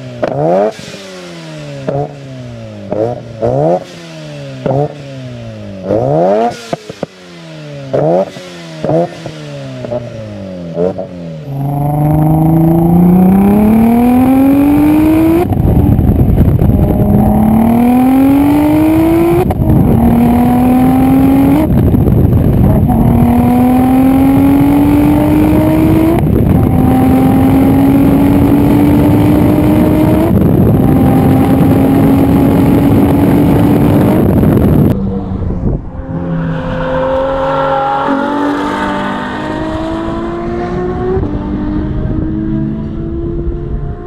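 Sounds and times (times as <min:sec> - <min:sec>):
car exhaust under acceleration: 0:00.0 - 0:44.0
quieter car engine revving: 0:00.0 - 0:44.0.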